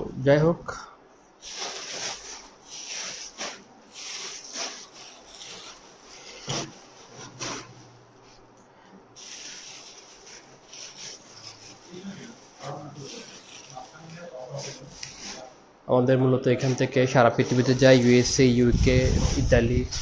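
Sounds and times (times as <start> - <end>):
plastic-wrapped garments rustling: 1.3 - 8.4, 9.1 - 15.6, 16.6 - 20.0.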